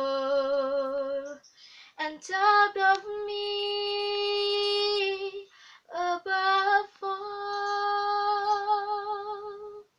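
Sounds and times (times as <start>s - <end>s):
girl singing unaccompanied: 0.0s - 9.9s.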